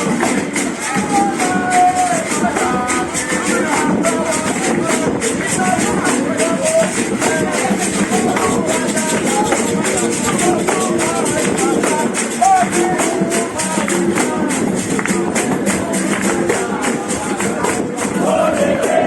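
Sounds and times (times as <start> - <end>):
hand percussion beat: 0.0 - 19.0
voices singing: 0.0 - 19.0.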